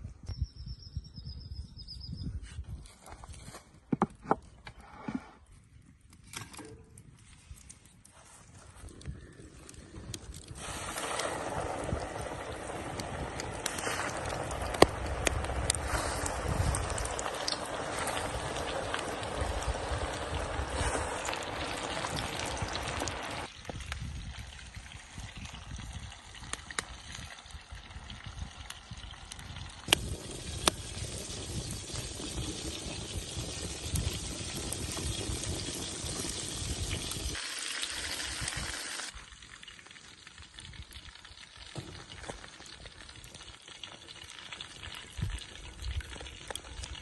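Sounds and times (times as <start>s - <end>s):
oil bubbling and hissing: 8.2s - 47.0s.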